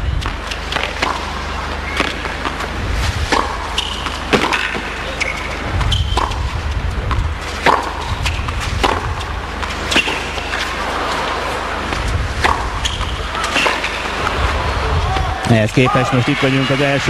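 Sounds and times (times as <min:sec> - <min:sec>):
low steady hum: 0:00.0 - 0:17.0
racket hitting tennis ball: 0:00.2 - 0:15.3.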